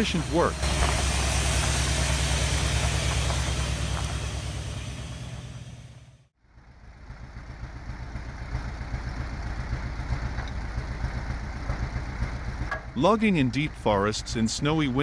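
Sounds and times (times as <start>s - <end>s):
heavy diesel engine running: 0.0s - 15.0s
heavy engine low throb: 0.0s - 15.0s.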